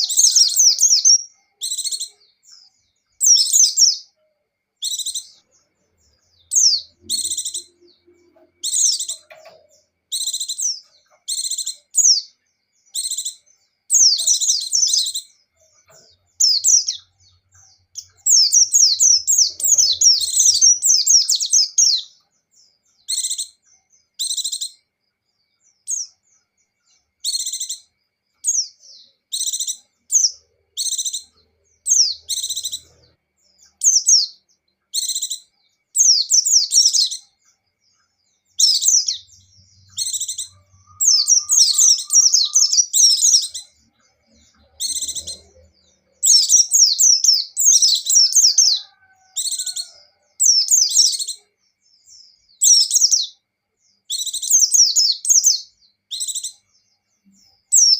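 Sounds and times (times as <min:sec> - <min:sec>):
birds twittering: 0:00.0 - 0:57.9.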